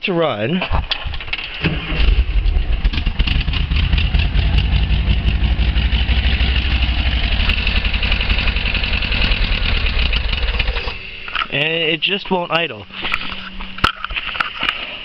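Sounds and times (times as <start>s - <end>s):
engine running: 1.0s - 15.0s.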